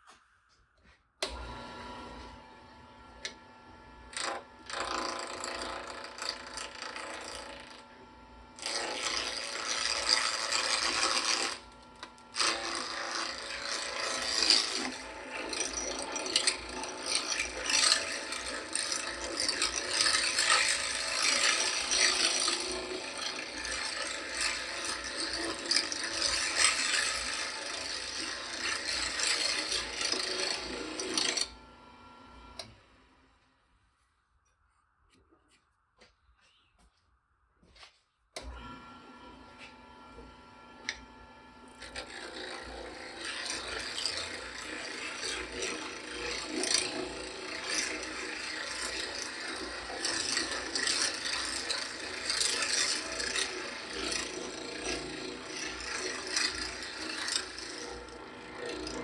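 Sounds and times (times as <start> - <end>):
lathe tool scraping wood: 1.2 - 32.7, 38.4 - 59.0
lathe motor hum: 1.2 - 33.2, 38.4 - 59.0.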